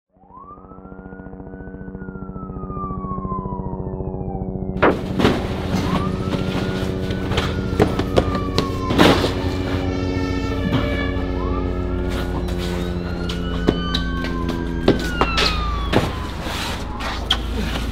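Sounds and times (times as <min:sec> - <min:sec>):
low pulsing drone: 0:00.1 - 0:17.9
siren wailing: 0:00.1 - 0:17.9.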